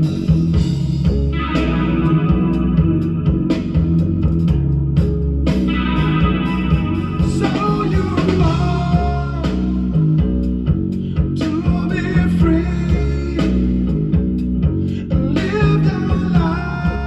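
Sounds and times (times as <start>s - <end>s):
rock music with guitar and bass: 0.0s - 17.0s.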